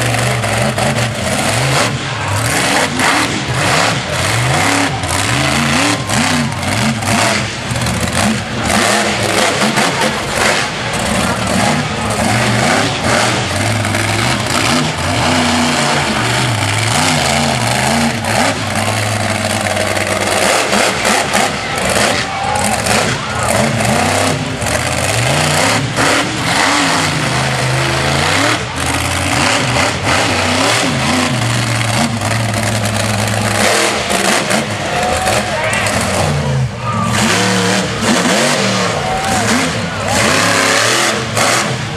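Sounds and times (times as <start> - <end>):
monster truck engine revving: 0.0 - 41.9.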